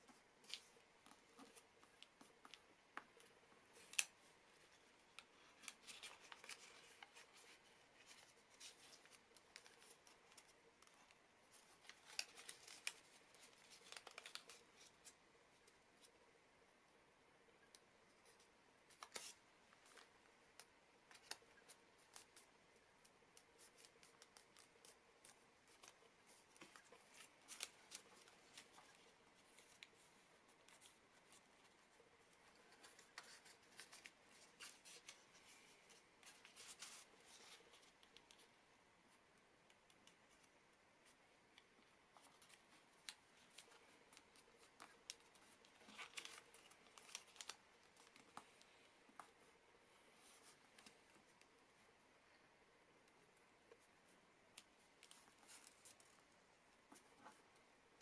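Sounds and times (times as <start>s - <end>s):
paper crinkling while folded: 0.0s - 16.2s, 17.6s - 51.9s, 53.6s - 58.0s.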